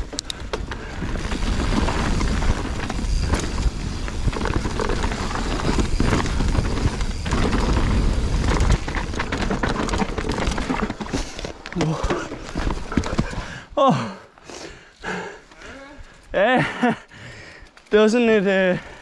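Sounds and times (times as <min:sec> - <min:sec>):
mountain bike rattling: 0:00.0 - 0:14.0, 0:15.0 - 0:19.0.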